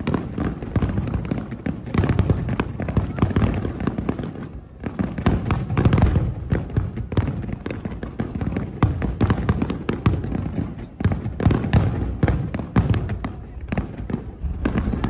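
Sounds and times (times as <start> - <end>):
fireworks bangs and crackle: 0.0 - 15.0.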